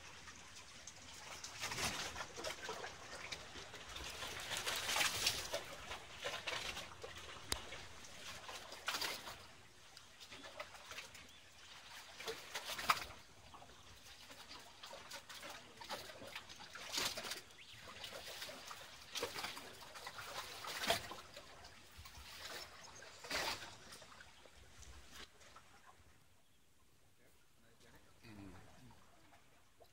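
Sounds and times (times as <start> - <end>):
small waves lapping against concrete: 0.0 - 26.2.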